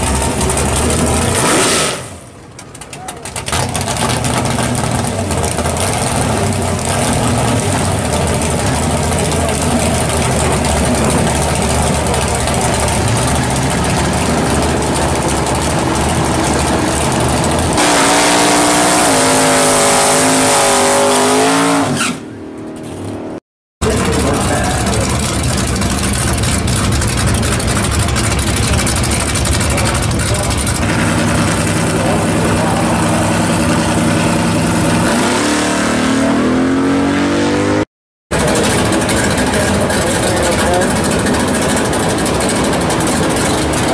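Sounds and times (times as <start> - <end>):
tyres spinning in a burnout: 0.0 - 21.3, 23.8 - 36.4, 38.3 - 43.9
car engine idling and revving: 0.0 - 43.9.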